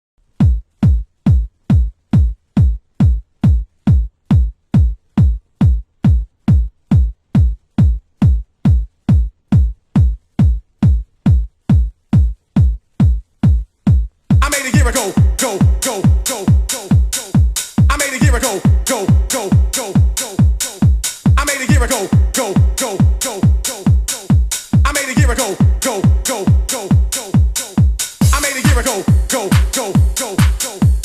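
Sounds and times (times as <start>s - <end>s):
drum machine kick drum: 0.2s - 31.0s.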